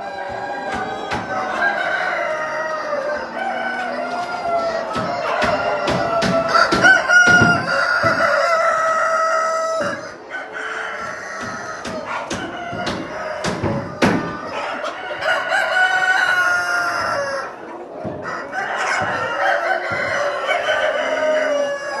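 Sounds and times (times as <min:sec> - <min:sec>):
chickens clucking: 0:00.0 - 0:22.0
cockerels crowing: 0:00.0 - 0:22.0.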